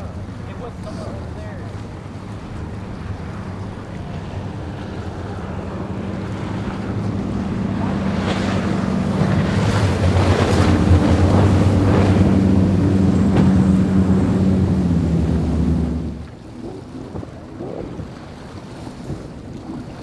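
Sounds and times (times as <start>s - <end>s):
powerboat engines droning: 0.0s - 20.0s
wind on microphone: 0.0s - 20.0s.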